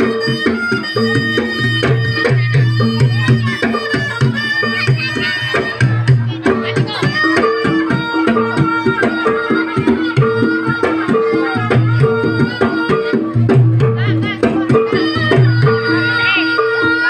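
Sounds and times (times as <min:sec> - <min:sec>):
hand drums beating: 0:00.0 - 0:17.0
reedy wind instrument melody: 0:00.0 - 0:17.0.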